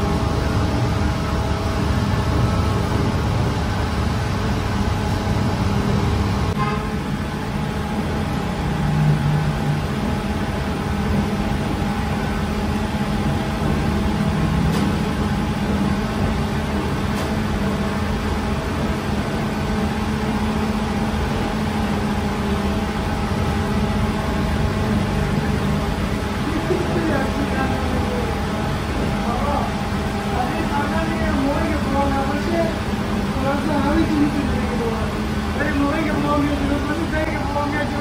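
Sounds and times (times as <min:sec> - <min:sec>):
machinery droning: 0:00.0 - 0:38.0.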